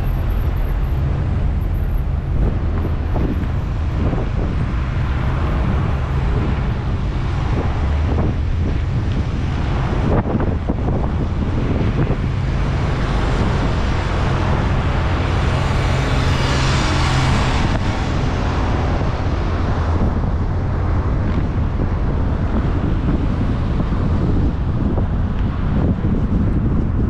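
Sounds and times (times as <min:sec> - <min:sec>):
road rumble from moving car: 0:00.0 - 0:27.0
wind buffeting microphone: 0:00.0 - 0:27.0.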